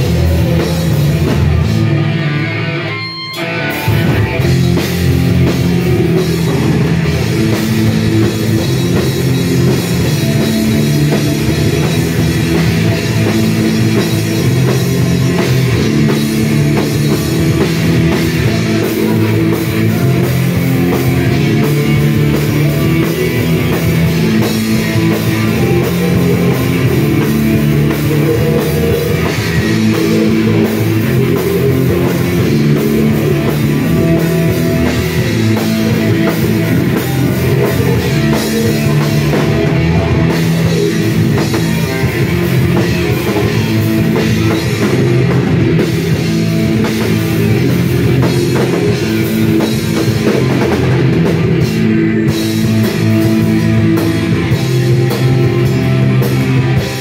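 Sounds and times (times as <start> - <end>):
heavy metal band playing live: 0.0 - 57.0.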